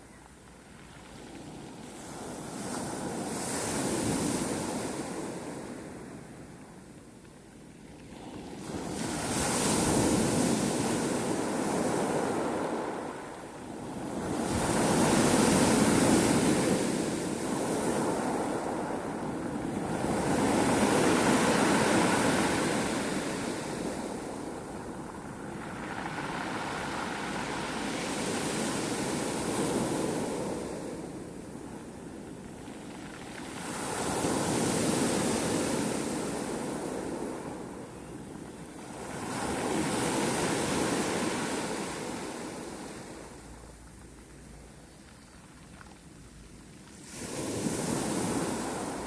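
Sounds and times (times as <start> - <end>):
waves breaking and washing in: 0.8 - 7.0, 7.9 - 49.0.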